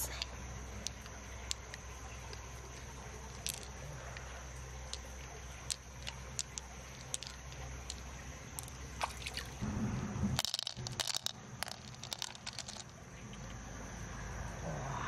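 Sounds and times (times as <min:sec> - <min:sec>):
pearls clicking on shell: 0:00.0 - 0:09.6, 0:10.4 - 0:13.6.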